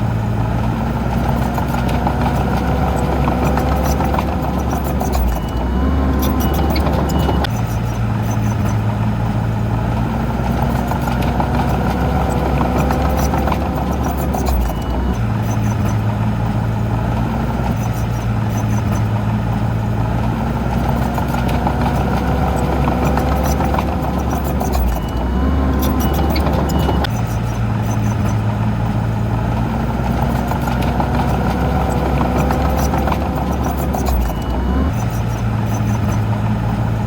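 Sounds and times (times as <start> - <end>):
heavy machinery diesel engine running: 0.0 - 37.0
clanks and clicks: 0.6 - 37.0.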